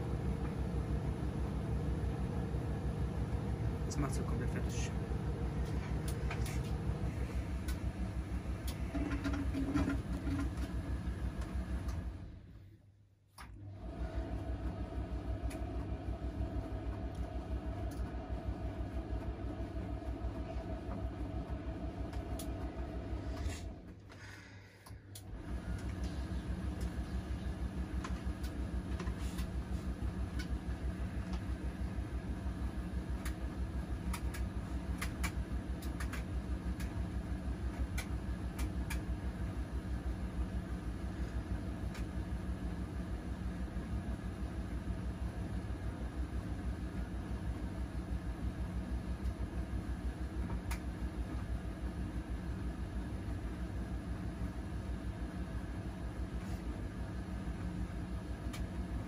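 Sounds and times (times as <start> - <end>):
washing machine drum spinning: 0.0 - 12.2, 13.6 - 24.0, 25.2 - 59.0.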